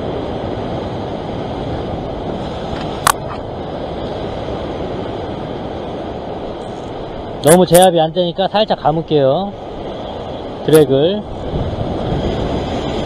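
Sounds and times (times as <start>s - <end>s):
wind on microphone: 0.0s - 7.5s, 9.4s - 13.0s.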